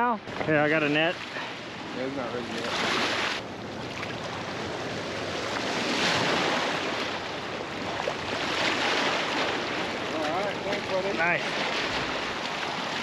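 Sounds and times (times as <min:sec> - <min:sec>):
waves splashing against rocky bank: 0:00.2 - 0:13.0.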